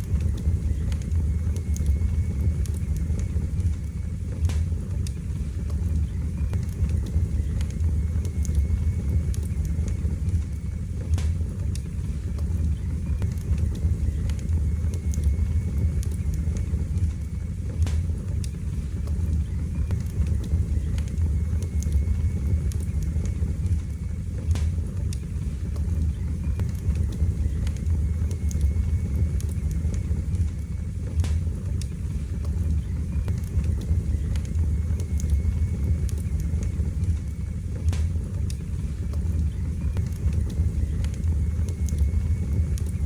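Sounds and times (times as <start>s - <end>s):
wood fire burning: 0.0s - 43.0s.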